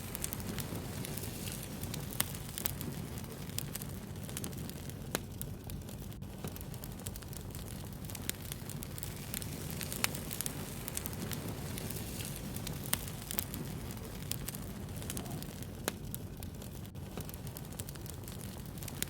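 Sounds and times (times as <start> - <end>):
burning wood crackling and popping: 0.0 - 19.0
campfire rumbling: 0.0 - 19.0.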